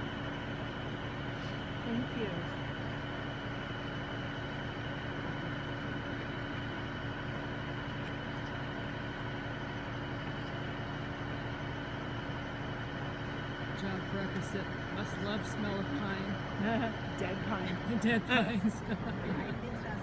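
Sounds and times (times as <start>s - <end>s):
crane engine running: 0.0s - 20.0s.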